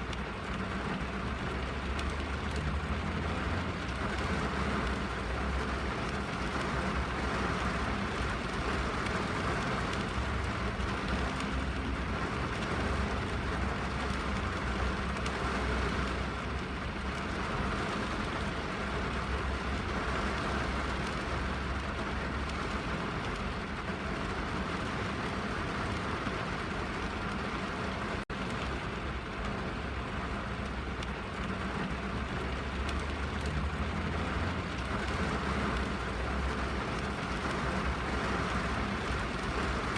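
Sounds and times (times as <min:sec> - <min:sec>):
rain drumming on a car roof: 0:00.0 - 0:39.9.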